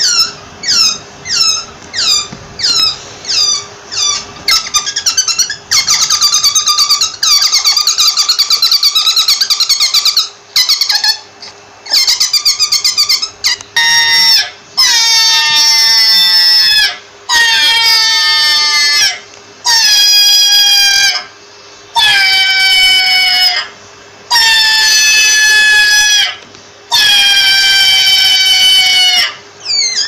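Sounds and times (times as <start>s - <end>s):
rabbit falling cries: 0.0s - 11.1s, 11.9s - 21.4s, 22.0s - 30.0s
rabbit squeaking: 0.0s - 30.0s.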